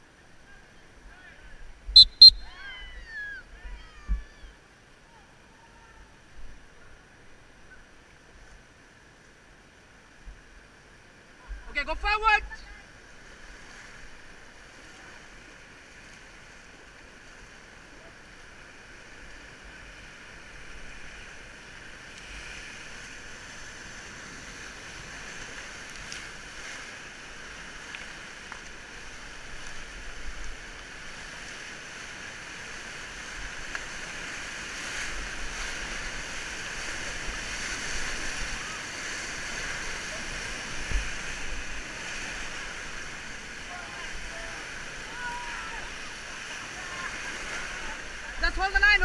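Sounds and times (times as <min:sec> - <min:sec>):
river water rushing: 0:04.6 - 0:49.0.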